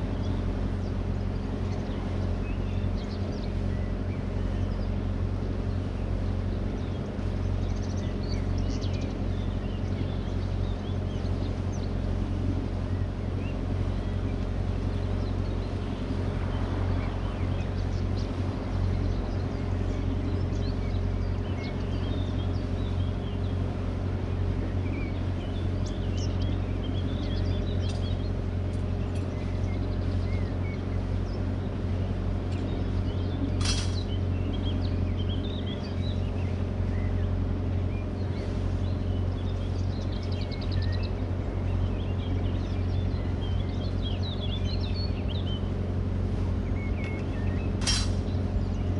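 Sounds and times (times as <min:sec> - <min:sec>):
birds singing: 0:00.0 - 0:48.9
boat engine droning: 0:00.0 - 0:48.9.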